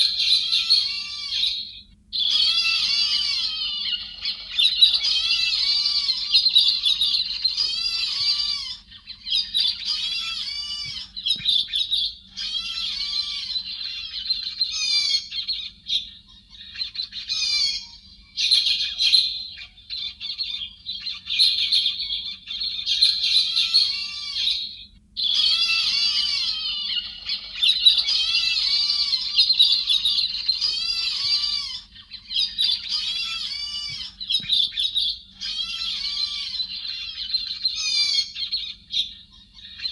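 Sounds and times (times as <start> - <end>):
thrushes calling in chatter: 0.0 - 39.9.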